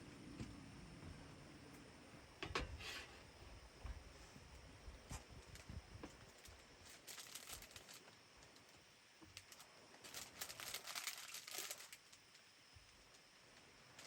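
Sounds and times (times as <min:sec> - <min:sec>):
faint crinkling and rustling: 0:02.4 - 0:14.0.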